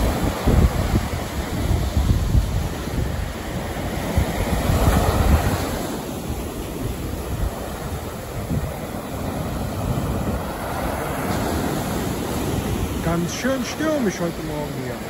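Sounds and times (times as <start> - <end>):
surf breaking on sand: 0.0 - 15.0
wind buffeting microphone: 0.0 - 15.0.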